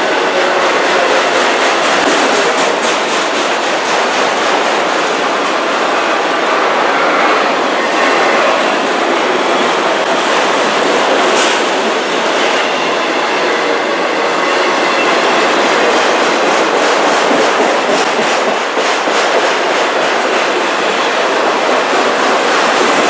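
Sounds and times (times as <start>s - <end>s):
train wheels on rail: 0.0s - 23.0s
wheels clickety-clack on rail joints: 0.4s - 13.1s, 14.8s - 23.0s.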